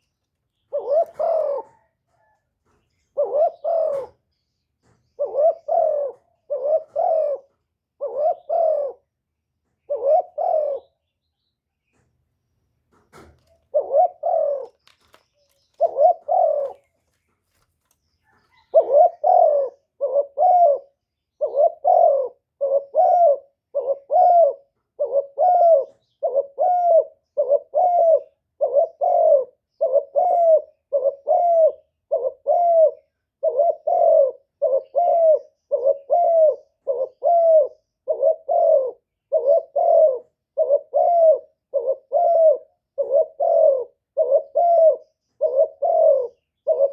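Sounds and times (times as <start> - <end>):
dove cooing: 0.6 - 9.2, 9.8 - 11.0, 13.4 - 17.6, 18.2 - 46.9.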